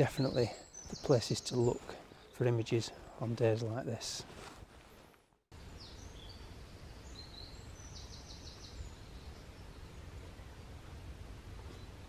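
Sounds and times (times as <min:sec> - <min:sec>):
faint birdsong chirps: 0:00.0 - 0:04.5, 0:05.5 - 0:12.0.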